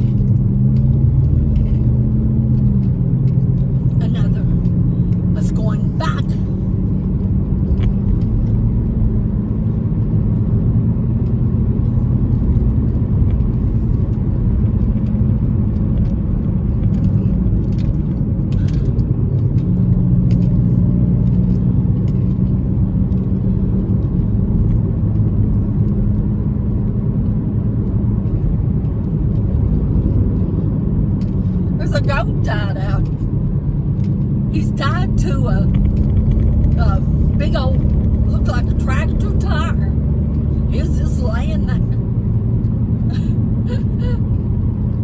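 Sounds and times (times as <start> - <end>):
car engine hum: 0.0 - 45.0
tyre and road rumble: 0.0 - 45.0.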